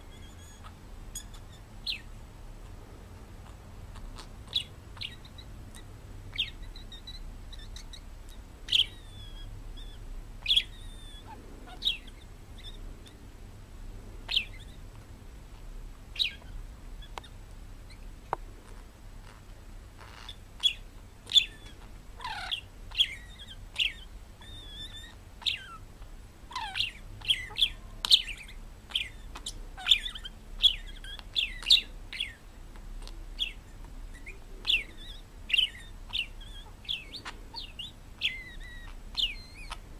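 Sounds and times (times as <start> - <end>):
parrot chirping: 0.0 - 2.2, 3.4 - 13.2, 14.2 - 14.9, 15.5 - 39.9.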